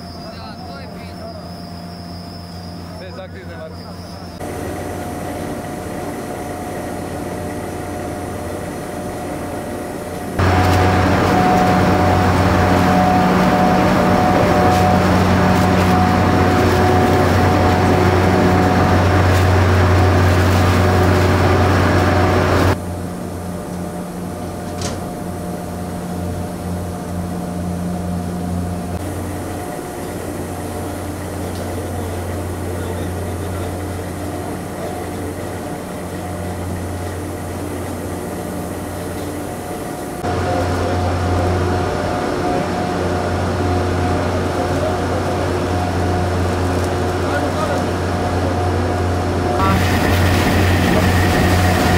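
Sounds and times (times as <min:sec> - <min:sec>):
low hum of heavy machinery: 0:00.0 - 0:51.9.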